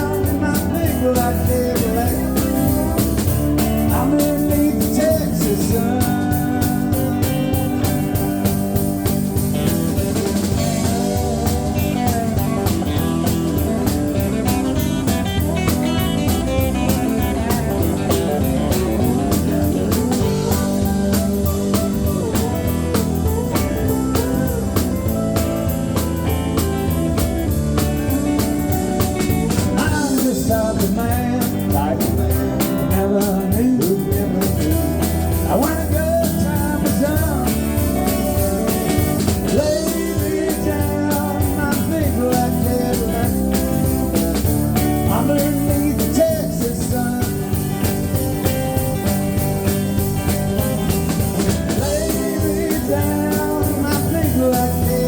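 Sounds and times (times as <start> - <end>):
country-rock band playing: 0.0 - 55.0.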